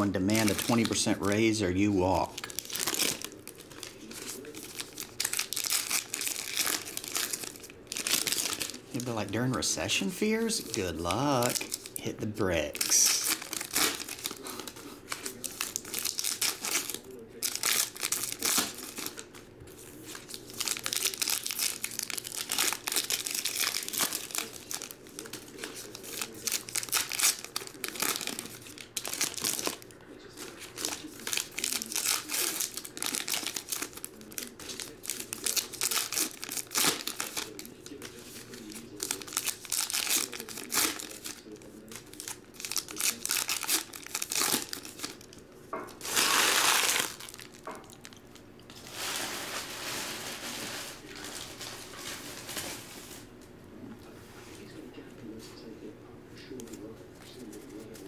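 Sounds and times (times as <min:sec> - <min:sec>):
foil wrappers tearing and crinkling: 0:00.0 - 0:53.3.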